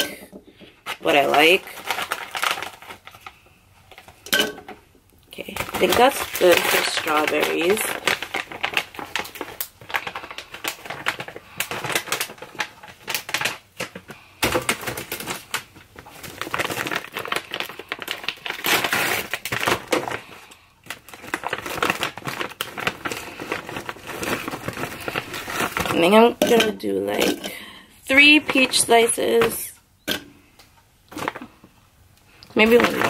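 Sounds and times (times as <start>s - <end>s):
plastic bag crinkling: 0.0s - 4.3s, 5.3s - 29.8s, 31.0s - 33.0s.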